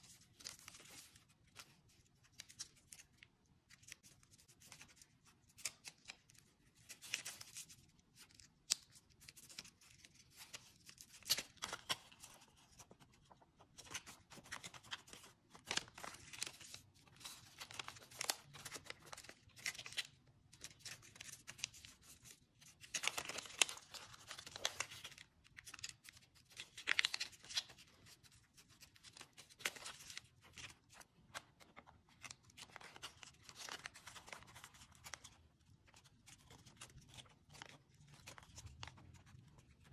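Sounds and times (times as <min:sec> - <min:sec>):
paper being folded and creased: 0:00.0 - 0:39.9.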